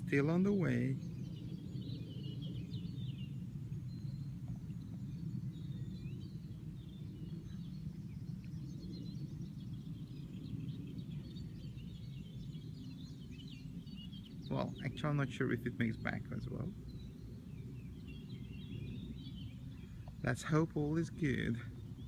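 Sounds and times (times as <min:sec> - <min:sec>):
low outdoor rumble: 0:00.0 - 0:22.0
small birds chirping: 0:00.0 - 0:22.0.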